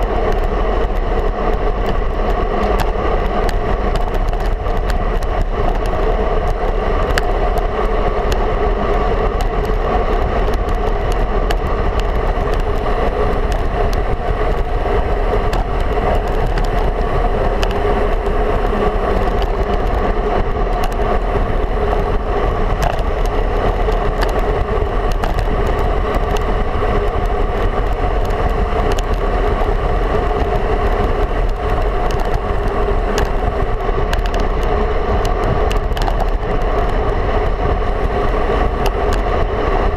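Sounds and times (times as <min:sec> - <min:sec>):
bike rattles from road bumps: 0:00.0 - 0:39.9
tyre noise on road: 0:00.0 - 0:39.9
wind rush: 0:00.0 - 0:39.9.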